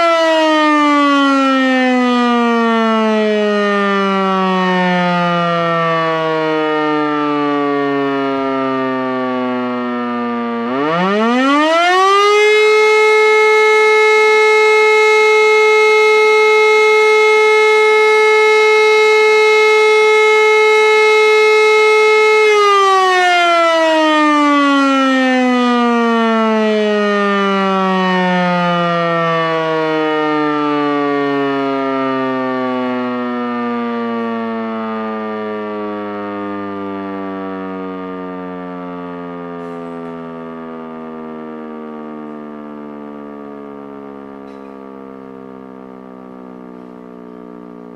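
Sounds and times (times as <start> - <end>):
electromechanical siren wailing: 0.0 - 47.9.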